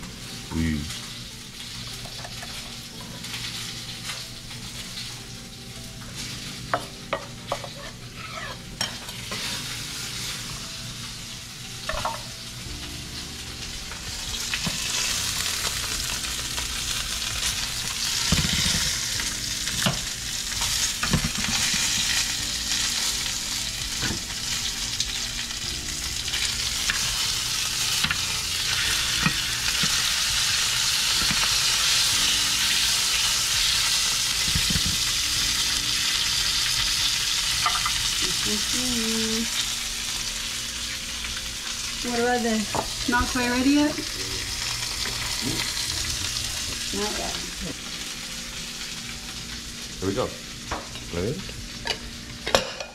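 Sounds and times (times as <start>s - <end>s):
fish sizzling in oil: 0.0s - 52.9s.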